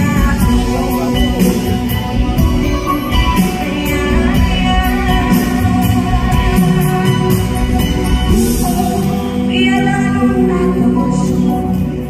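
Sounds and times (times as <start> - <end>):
instrumental accompaniment: 0.0 - 12.0
woman singing a slow ballad: 0.0 - 12.0.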